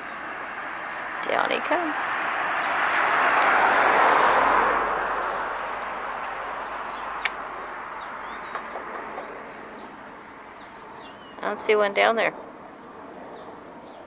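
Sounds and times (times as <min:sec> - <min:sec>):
passing vehicle: 0:00.0 - 0:14.0.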